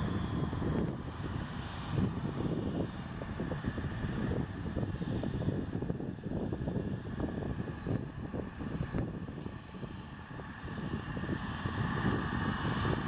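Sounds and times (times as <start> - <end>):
jet taxiing engine rumble: 0.0 - 13.0.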